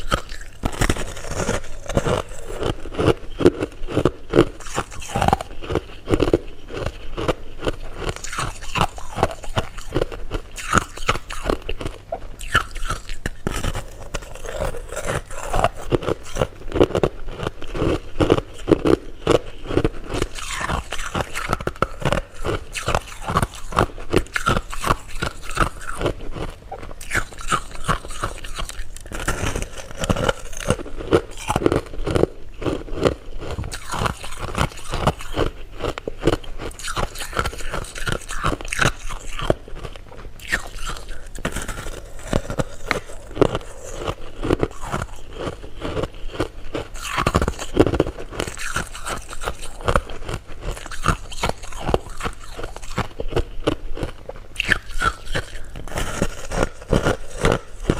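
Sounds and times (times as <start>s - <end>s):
candy crunching and chewing: 0.0s - 57.9s.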